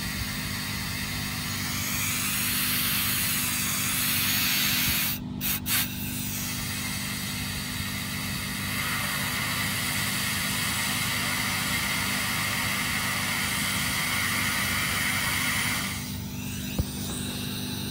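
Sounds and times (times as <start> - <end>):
small engine running: 0.0 - 17.9.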